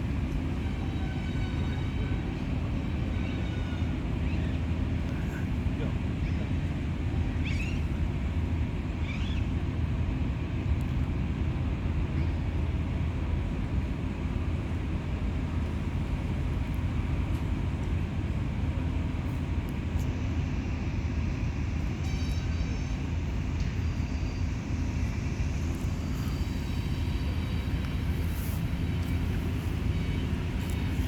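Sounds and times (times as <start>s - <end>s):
low rumble with hum: 4.6s - 31.0s.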